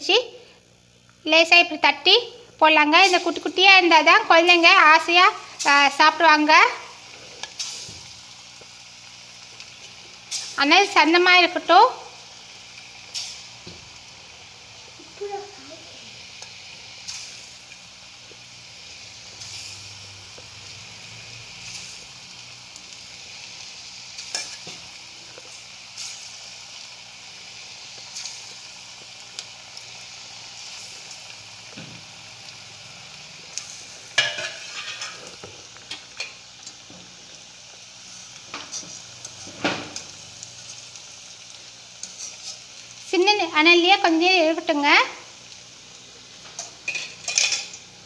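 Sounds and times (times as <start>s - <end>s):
dough frying in hot oil: 0.0s - 48.0s.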